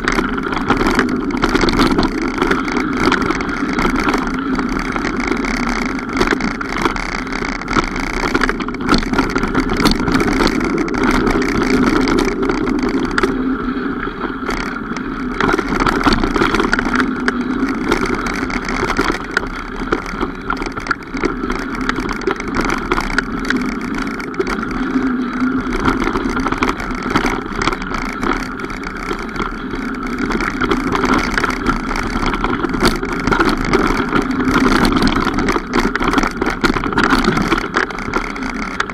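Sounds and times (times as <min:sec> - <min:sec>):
bike rattling and knocking: 0:00.0 - 0:38.9
tyre and wind noise: 0:00.0 - 0:38.9.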